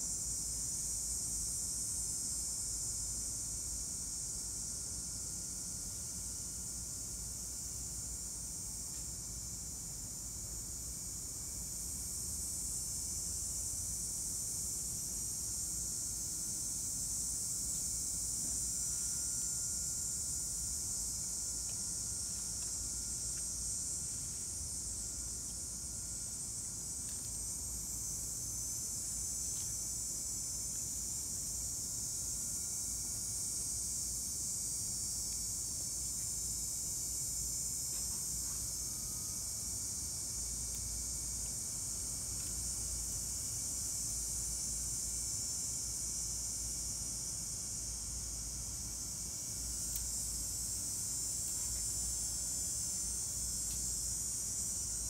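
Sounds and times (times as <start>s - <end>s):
high-pitched hiss: 0.0s - 55.0s.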